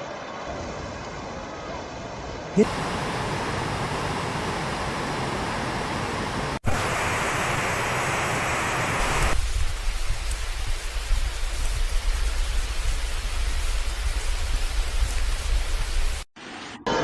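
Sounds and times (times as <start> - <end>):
heavy water rushing: 2.6 - 16.3.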